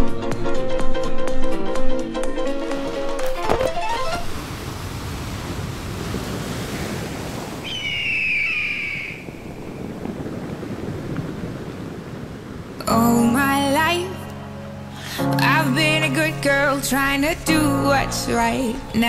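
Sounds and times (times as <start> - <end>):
sea waves washing on shore: 3.7 - 19.0.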